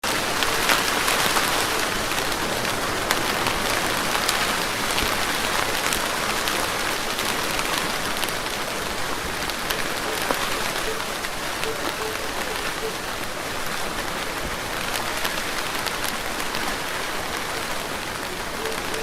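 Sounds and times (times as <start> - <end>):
sharp raindrop ticks: 0.0 - 19.0
steady rain hiss: 0.0 - 19.0.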